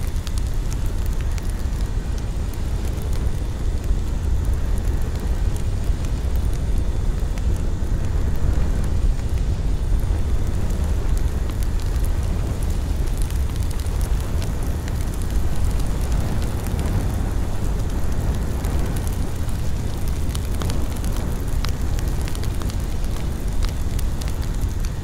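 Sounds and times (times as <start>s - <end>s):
steady low rumbling: 0.0s - 25.0s.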